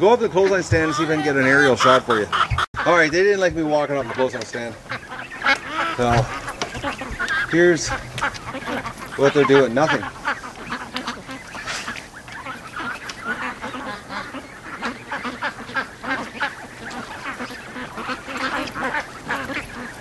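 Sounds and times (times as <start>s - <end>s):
flock of ducks quacking: 0.0s - 20.0s.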